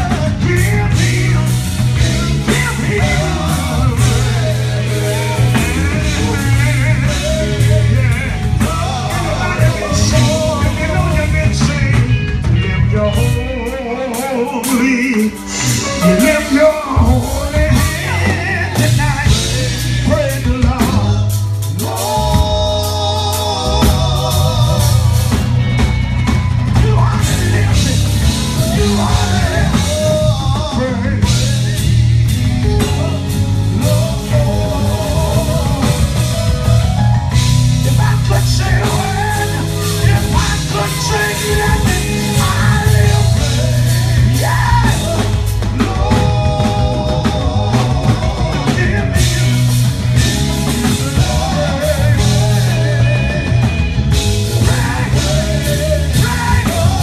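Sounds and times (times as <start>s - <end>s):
gospel band playing: 0.0s - 57.0s
group singing: 0.0s - 57.0s.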